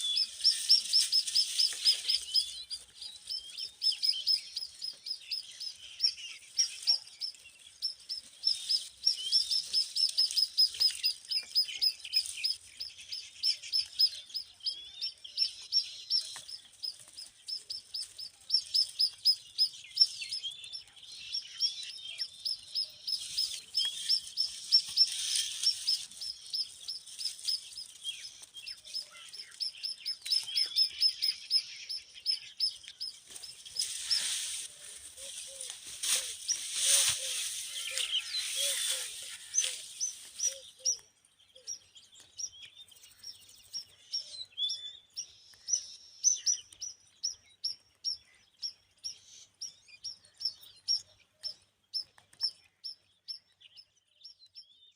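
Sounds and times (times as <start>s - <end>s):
baby birds chirping: 0.0s - 53.3s.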